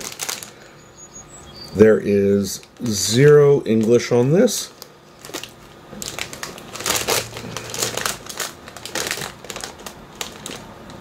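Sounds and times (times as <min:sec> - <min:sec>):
chip bag crinkling: 0:00.0 - 0:00.7, 0:02.1 - 0:11.0.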